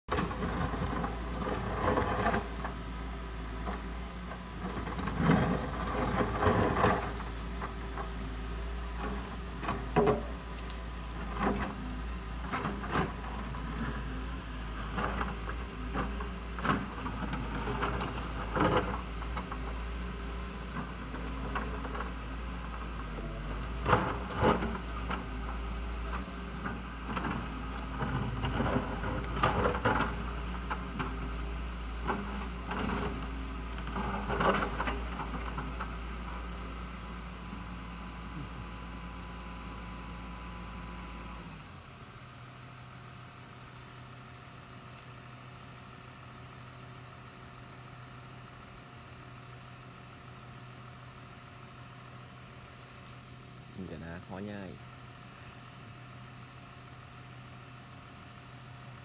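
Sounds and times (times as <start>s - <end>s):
excavator diesel engine running: 0.1s - 59.0s.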